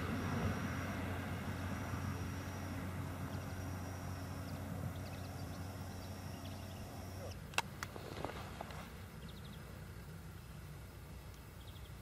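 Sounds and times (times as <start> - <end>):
distant engine drone: 0.0 - 12.0
faint outdoor background noise: 0.0 - 12.0.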